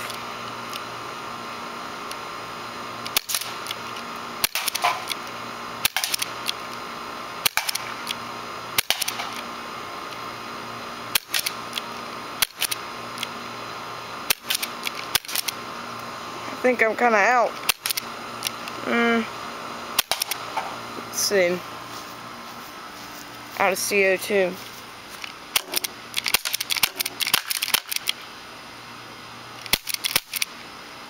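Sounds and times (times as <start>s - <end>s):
air conditioner hum: 0.0s - 31.0s.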